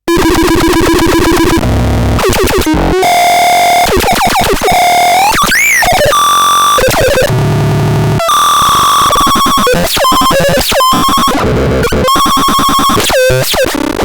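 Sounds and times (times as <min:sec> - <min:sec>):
buzzy synthesizer tones: 0:00.1 - 0:14.0.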